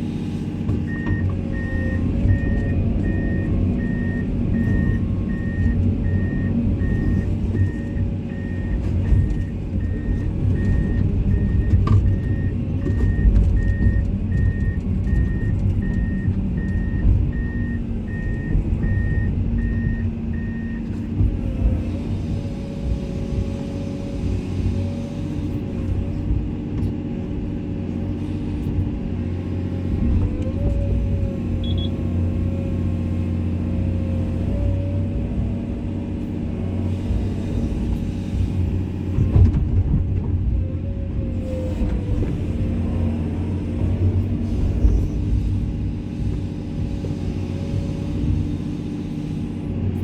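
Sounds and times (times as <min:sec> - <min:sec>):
engine whine: 0:00.0 - 0:50.0
excavator diesel engine running: 0:00.0 - 0:50.0.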